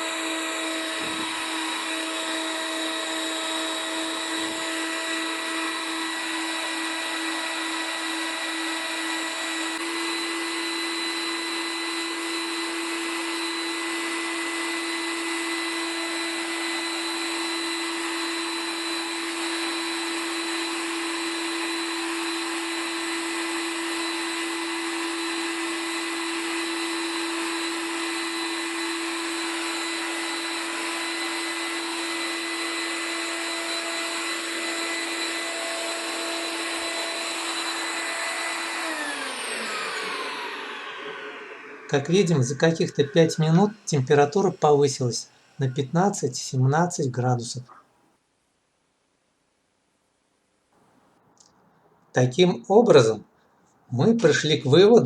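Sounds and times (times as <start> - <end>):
vacuum motor whining: 0.0 - 46.5.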